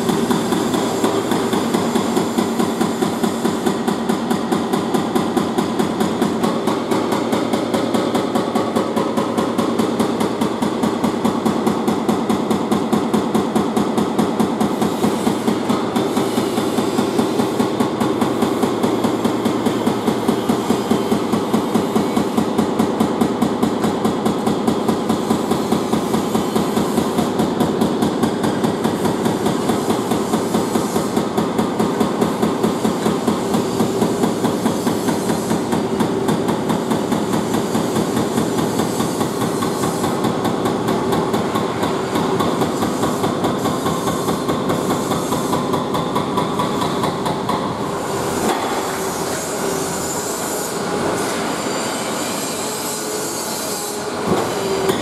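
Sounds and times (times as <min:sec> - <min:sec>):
hydraulic breaker hammering brick: 0:00.0 - 0:55.0.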